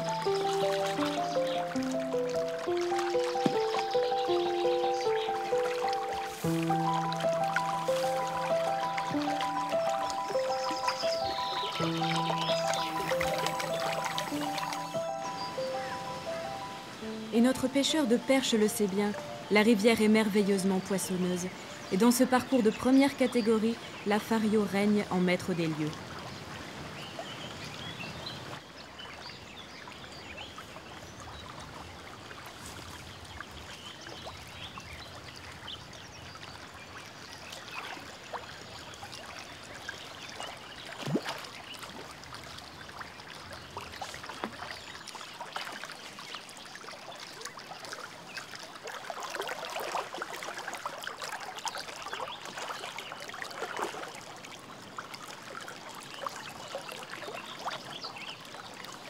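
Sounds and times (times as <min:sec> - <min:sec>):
river water running: 0:00.0 - 0:59.0.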